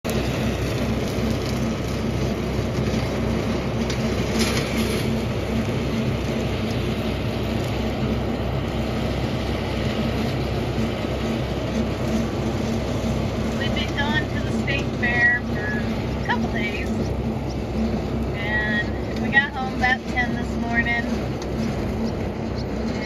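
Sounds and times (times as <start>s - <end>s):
tractor diesel engine droning: 0.0s - 23.0s.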